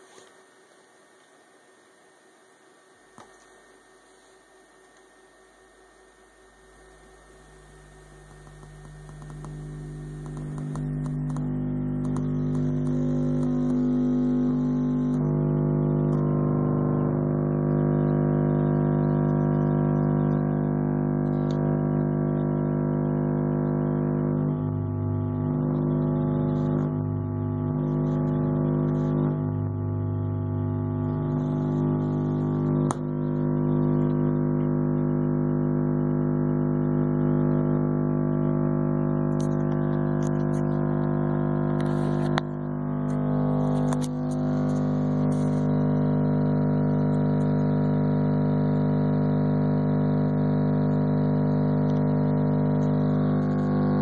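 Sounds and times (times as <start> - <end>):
subwoofer test tone hum: 0.0 - 54.0.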